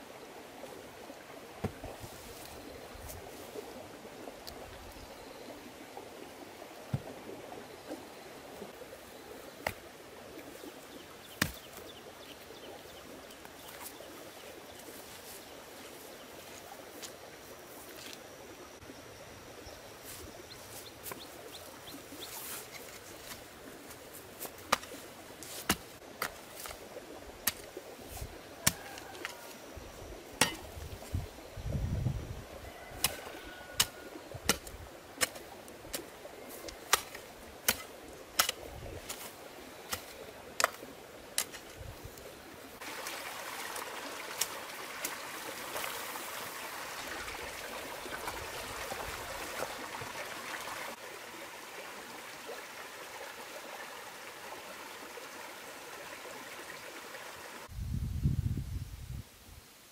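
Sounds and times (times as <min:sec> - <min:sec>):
stream water rushing: 0:00.0 - 0:18.4, 0:19.9 - 0:57.7.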